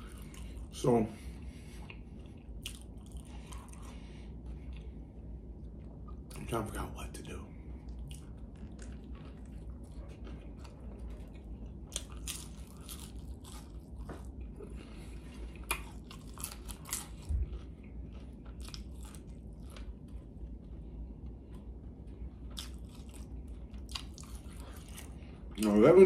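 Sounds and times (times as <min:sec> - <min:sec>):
crunchy chewing and biting: 0:00.0 - 0:00.9, 0:01.7 - 0:06.5, 0:07.8 - 0:21.5, 0:22.3 - 0:25.8.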